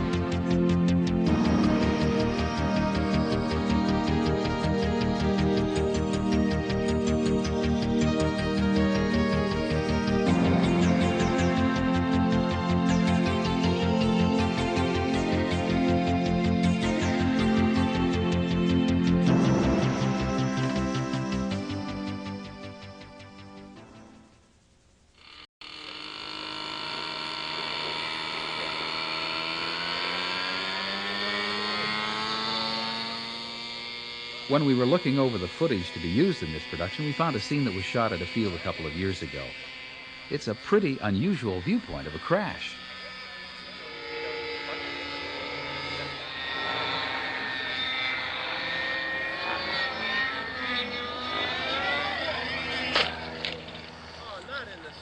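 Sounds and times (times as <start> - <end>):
model helicopter engine drone: 0.0 - 23.8, 25.1 - 55.0.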